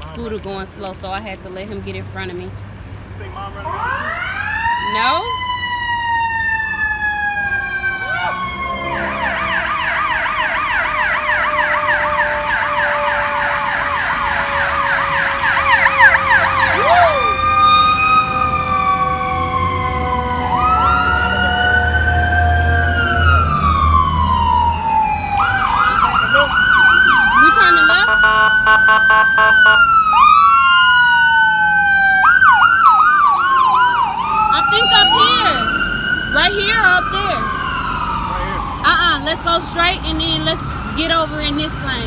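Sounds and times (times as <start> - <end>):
siren fast yelp: 3.7 - 41.6
siren wailing: 3.7 - 42.0.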